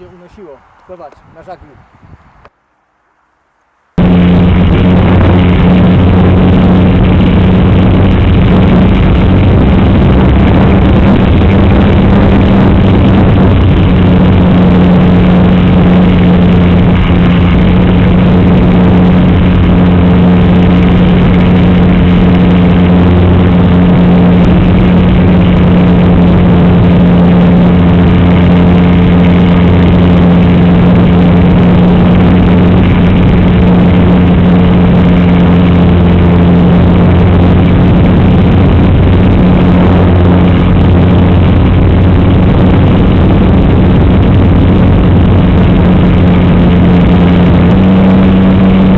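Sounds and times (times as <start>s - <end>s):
rushing airflow: 0.0s - 2.5s, 4.0s - 48.9s
model aircraft motor humming: 4.0s - 48.9s.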